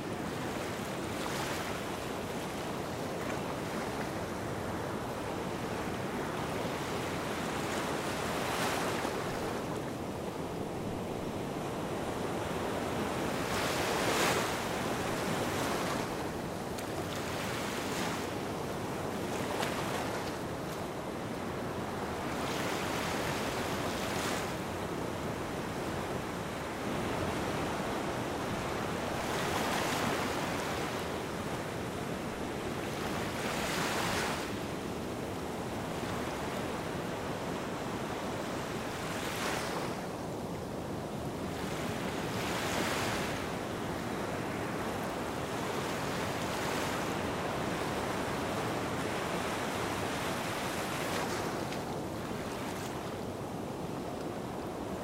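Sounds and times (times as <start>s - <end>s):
small waves washing onto sand: 0.0s - 55.0s.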